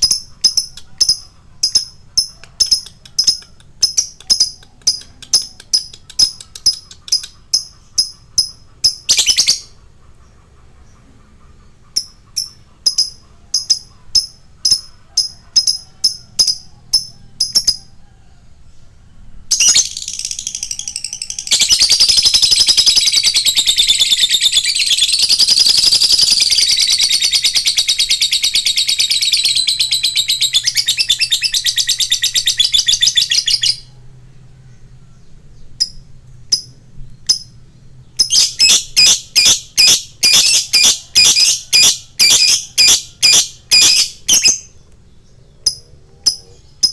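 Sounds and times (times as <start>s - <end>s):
lovebird chirping and trilling: 0.0s - 10.3s, 11.8s - 17.9s, 19.5s - 34.0s, 35.8s - 46.9s.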